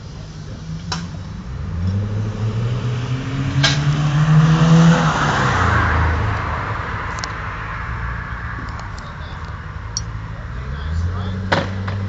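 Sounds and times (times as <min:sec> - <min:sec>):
car engine revving: 0:00.2 - 0:12.0.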